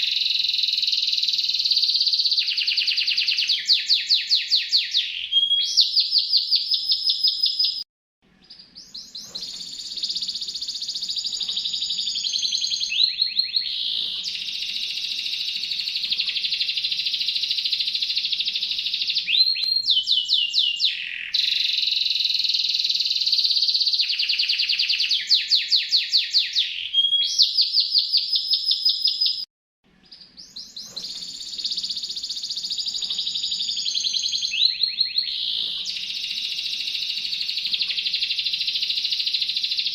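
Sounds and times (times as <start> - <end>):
canary singing trills: 0.0 - 7.8, 8.4 - 39.9.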